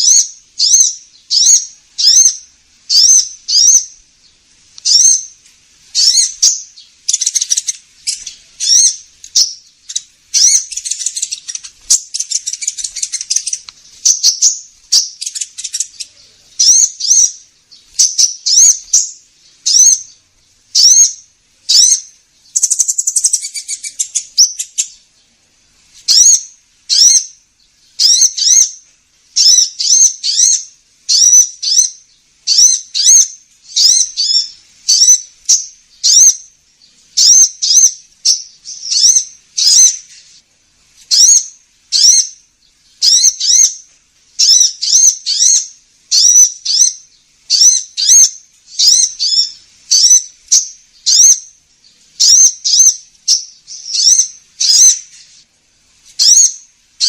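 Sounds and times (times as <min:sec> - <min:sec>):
fast rattling bird trill: 0:00.0 - 0:04.0, 0:04.8 - 0:25.0, 0:28.0 - 0:28.8, 0:29.4 - 0:36.5, 0:37.2 - 0:40.0, 0:41.1 - 0:42.4, 0:43.0 - 0:43.8, 0:44.4 - 0:51.5, 0:52.2 - 0:55.1, 0:56.2 - 0:56.6
high sweeping bird chirps: 0:00.0 - 0:57.0.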